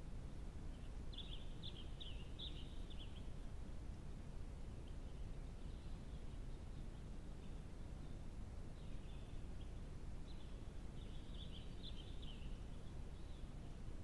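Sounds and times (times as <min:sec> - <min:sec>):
low background noise: 0:00.0 - 0:14.0
small bird chirping: 0:00.7 - 0:03.4, 0:04.8 - 0:13.7.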